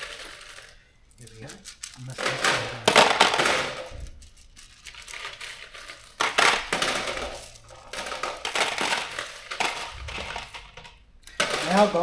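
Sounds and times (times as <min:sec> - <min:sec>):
metal bolts rattling into container: 0:00.0 - 0:12.0.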